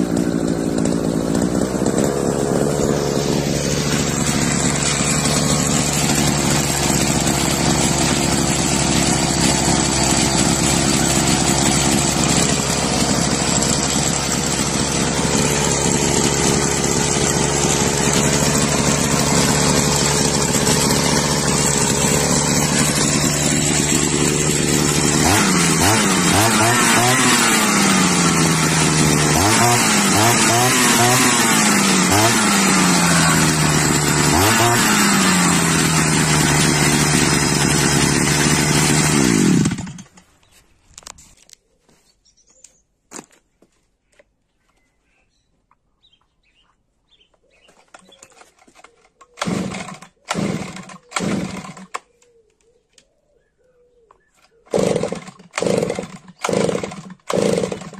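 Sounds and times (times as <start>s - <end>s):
recoil starter pulls: 0.0s - 40.3s, 47.9s - 52.0s, 54.4s - 57.9s
brush cutter engine idling and revving: 0.0s - 41.2s, 47.2s - 52.2s, 54.3s - 57.9s.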